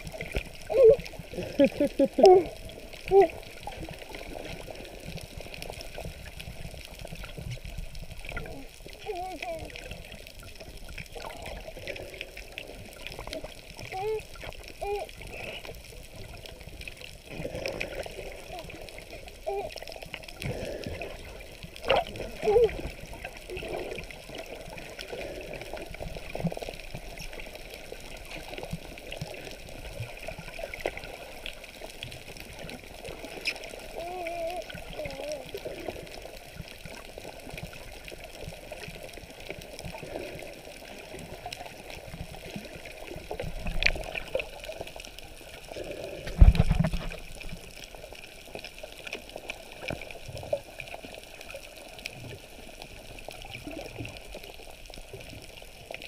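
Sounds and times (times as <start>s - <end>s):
muffled underwater sloshing and bubbling: 0.0s - 56.0s.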